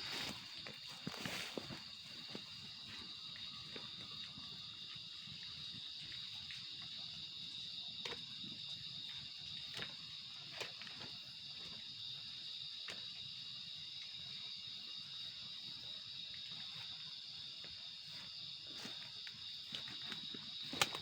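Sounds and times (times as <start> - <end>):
night insects trilling: 0.0 - 21.0.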